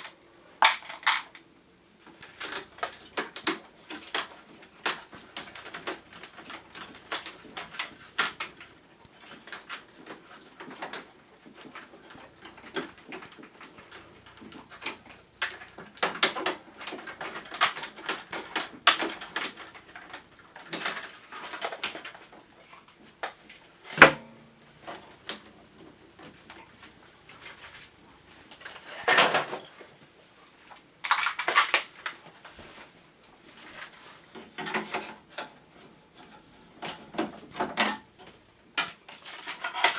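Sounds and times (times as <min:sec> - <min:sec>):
plastic parts clicking and rattling: 0:00.0 - 0:01.4, 0:02.0 - 0:29.7, 0:31.0 - 0:32.2, 0:36.2 - 0:39.9.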